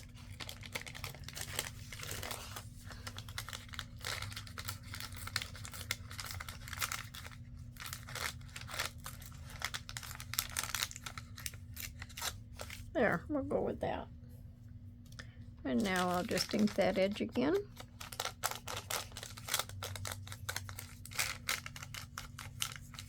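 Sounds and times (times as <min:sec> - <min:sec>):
paper ripping and crinkling: 0:00.0 - 0:12.9, 0:15.7 - 0:23.0
faint low hum: 0:00.0 - 0:23.0.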